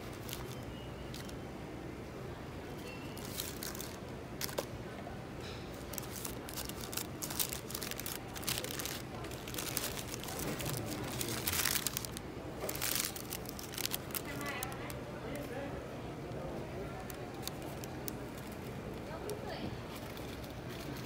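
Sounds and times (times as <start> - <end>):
paper wrapper crinkling: 0.0 - 1.4, 3.2 - 4.7, 5.7 - 15.5, 16.3 - 21.0.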